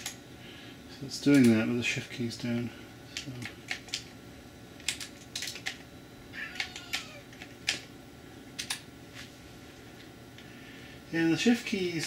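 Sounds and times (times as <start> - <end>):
faint computer whine: 0.0 - 12.0.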